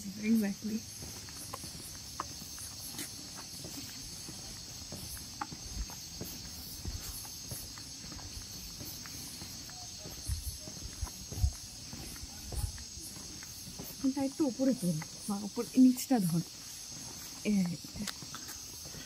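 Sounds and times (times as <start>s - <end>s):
crickets chirring: 0.0s - 19.0s
footsteps on paved road: 0.0s - 19.0s.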